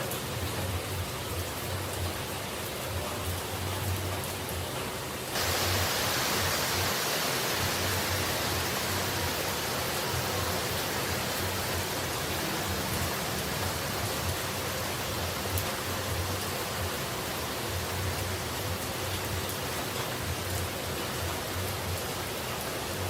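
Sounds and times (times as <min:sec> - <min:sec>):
falling water rushing: 0:00.0 - 0:23.0.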